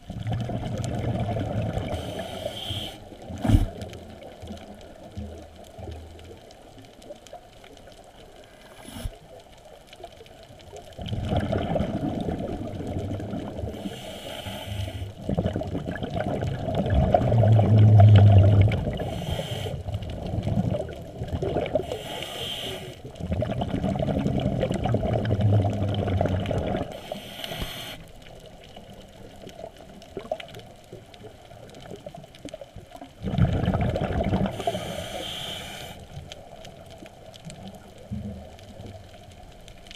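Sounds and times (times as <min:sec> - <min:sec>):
muffled underwater bubbles: 0:00.0 - 0:39.9.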